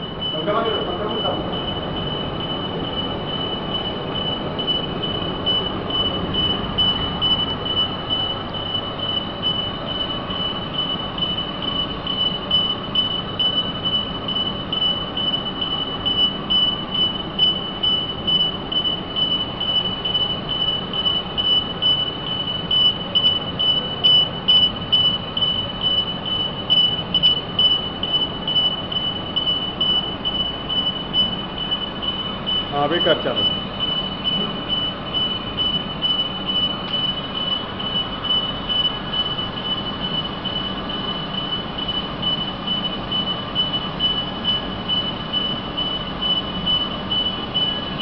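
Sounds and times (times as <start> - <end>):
steady background noise: 0.0 - 48.0.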